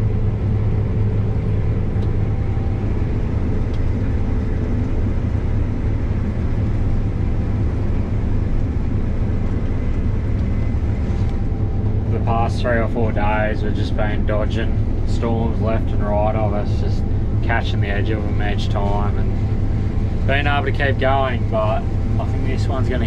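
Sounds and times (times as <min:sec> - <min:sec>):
combine harvester drone: 0:00.0 - 0:23.0
steady hum: 0:00.0 - 0:23.0.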